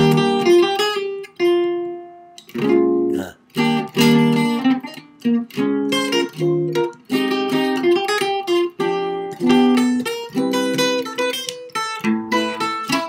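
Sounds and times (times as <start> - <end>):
jazz guitar chords: 0.0 - 13.0.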